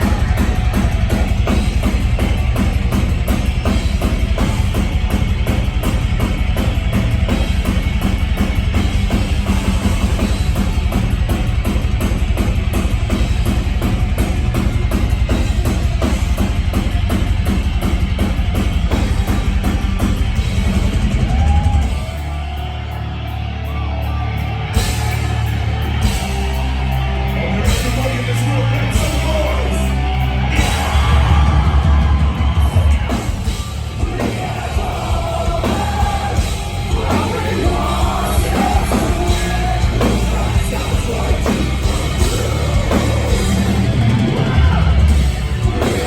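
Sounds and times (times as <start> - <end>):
fast drumming on drum kit: 0.0 - 23.4, 24.1 - 46.0
distorted guitars: 0.0 - 46.0
heavy metal song: 0.0 - 46.0.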